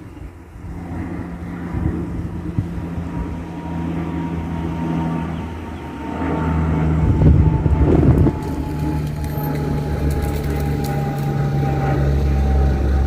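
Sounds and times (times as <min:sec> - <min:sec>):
turboprop plane propeller drone: 0:00.0 - 0:13.0.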